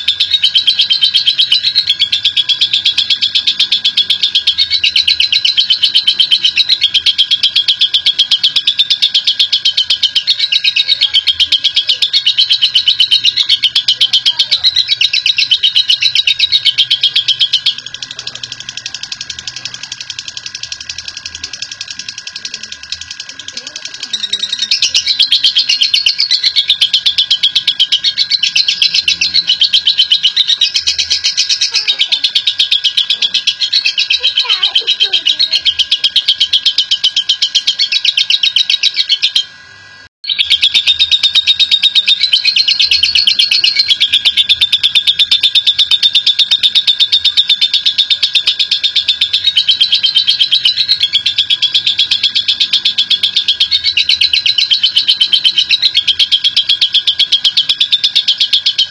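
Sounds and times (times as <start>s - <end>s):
bird chattering trill: 0.0s - 58.9s.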